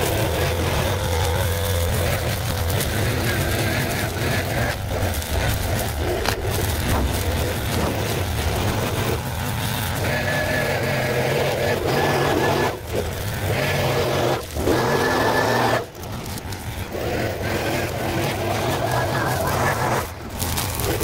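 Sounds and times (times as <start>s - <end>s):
brushcutter engine running hard: 0.0s - 21.0s.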